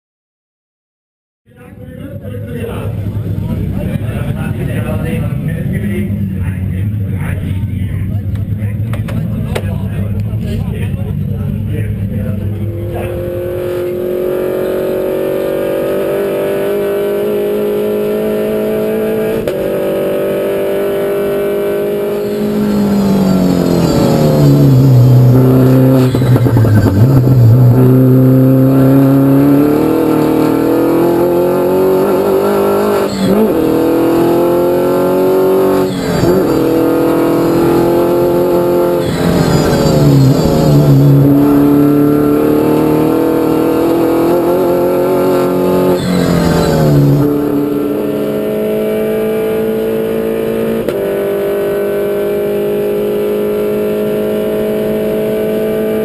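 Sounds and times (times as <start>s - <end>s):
race car engine with gear changes: 1.6s - 56.0s.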